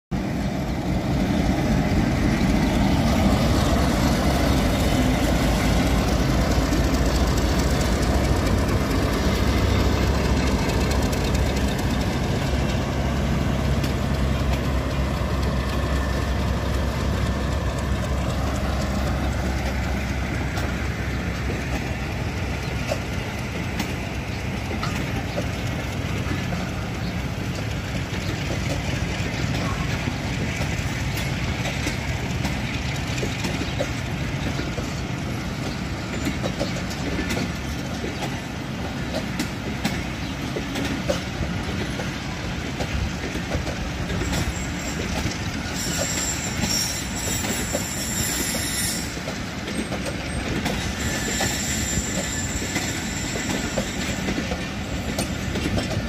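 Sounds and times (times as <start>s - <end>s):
train coaches rolling: 0.1s - 56.0s
locomotive engine drone: 0.2s - 56.0s.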